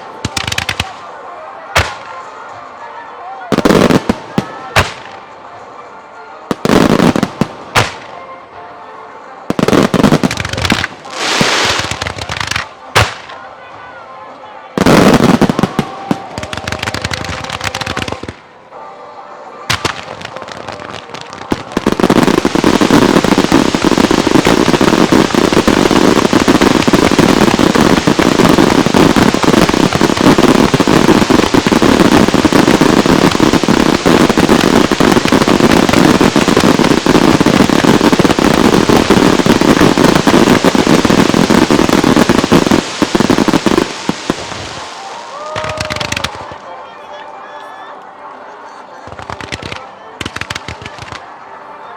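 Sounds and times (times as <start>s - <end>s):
fireworks bursts and crackle: 0.0s - 2.8s, 3.5s - 5.7s, 6.5s - 8.2s, 9.5s - 13.5s, 14.8s - 18.9s, 19.6s - 46.7s, 49.0s - 51.5s.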